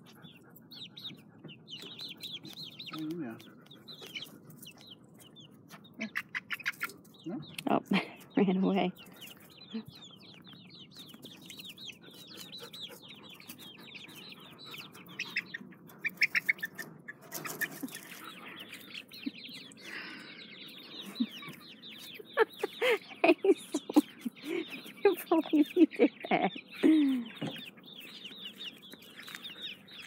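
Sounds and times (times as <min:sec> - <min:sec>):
chickens clucking: 0:00.0 - 0:30.0
chicks peeping: 0:00.0 - 0:30.0.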